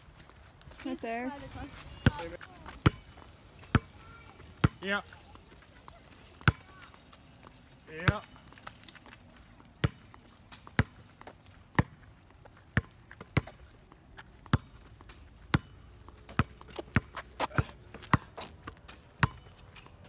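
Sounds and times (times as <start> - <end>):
basketball bouncing: 1.3 - 7.0, 7.9 - 8.4, 9.8 - 20.0.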